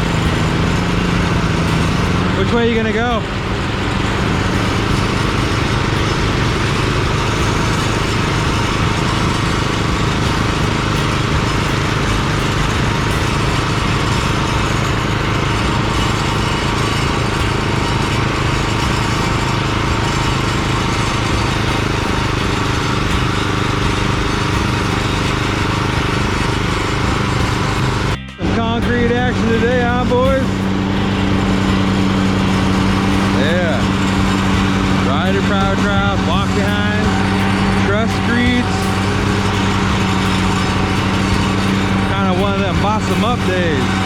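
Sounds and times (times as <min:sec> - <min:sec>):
power trowel engines running: 0:00.0 - 0:44.0.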